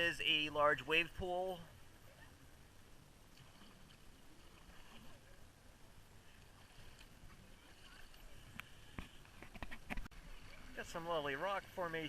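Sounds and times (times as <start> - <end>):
faint flowing water: 0.0 - 12.0.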